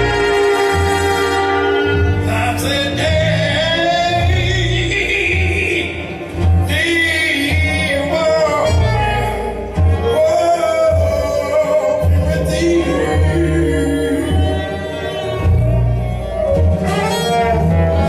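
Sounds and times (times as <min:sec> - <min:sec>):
man singing: 0:00.0 - 0:15.5
bass line: 0:00.0 - 0:18.0
jazz band playing blues: 0:00.0 - 0:18.0.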